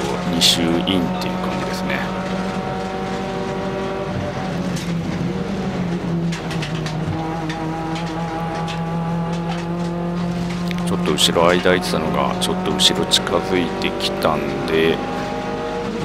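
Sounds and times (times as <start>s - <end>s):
race car engine from inside cabin: 0.0s - 16.0s.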